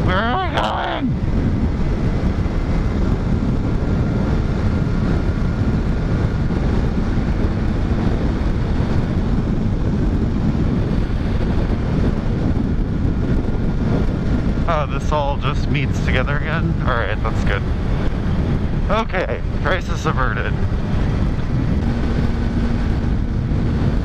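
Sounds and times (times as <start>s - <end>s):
motorcycle engine running: 0.0s - 24.0s
wind rush on microphone: 0.0s - 24.0s.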